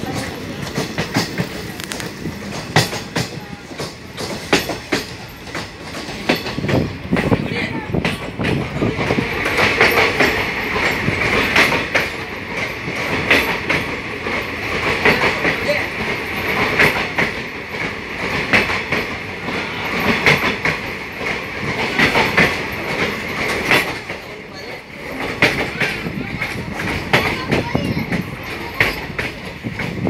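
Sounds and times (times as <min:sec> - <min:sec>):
train wheels rumbling and rattling: 0:00.0 - 0:30.0
wheel clacks: 0:00.0 - 0:30.0.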